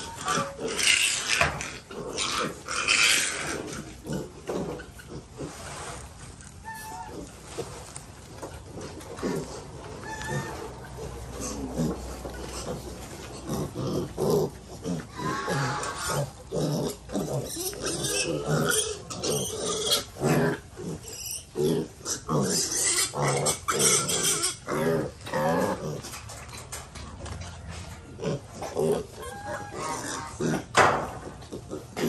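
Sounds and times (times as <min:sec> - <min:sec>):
piglets grunting and squealing: 0:00.0 - 0:05.7, 0:06.5 - 0:07.8, 0:08.4 - 0:26.4, 0:28.1 - 0:32.0.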